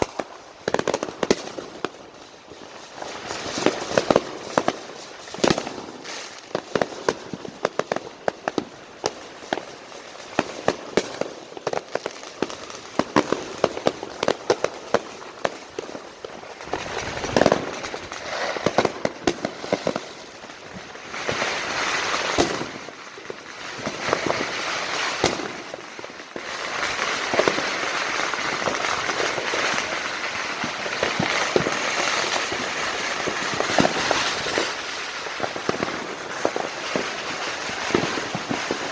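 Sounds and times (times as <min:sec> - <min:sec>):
firecracker strings crackling: 0:00.0 - 0:38.9
fireworks bangs: 0:00.0 - 0:38.9.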